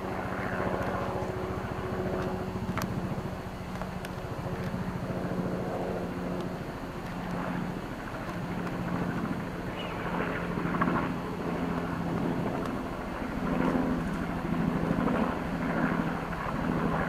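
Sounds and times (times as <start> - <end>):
helicopter rotor beating: 0.0 - 17.0.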